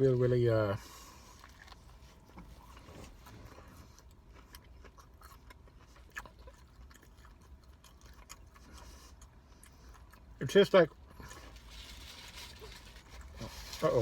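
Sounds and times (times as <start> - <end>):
faint chewing: 0.8 - 14.0.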